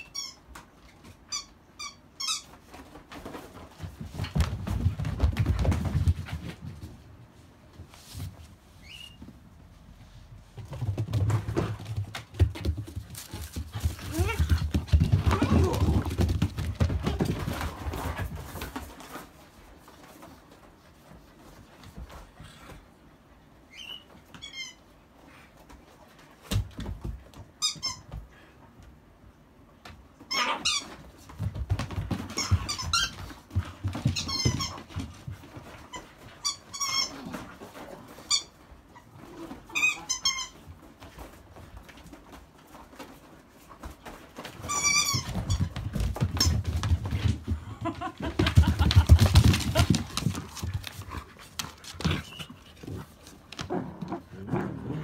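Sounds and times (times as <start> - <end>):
scuffling paws: 2.2 - 23.0, 30.3 - 55.0.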